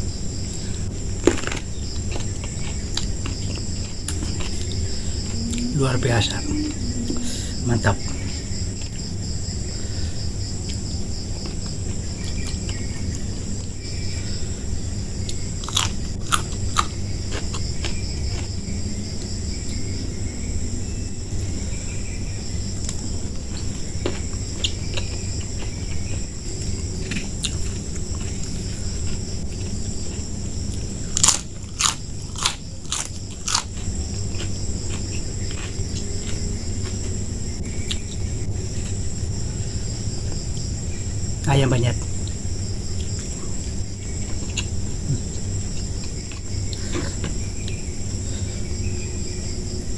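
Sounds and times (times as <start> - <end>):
crickets chirping: 0.0 - 49.9
crunching and chewing crisp food: 0.0 - 49.9.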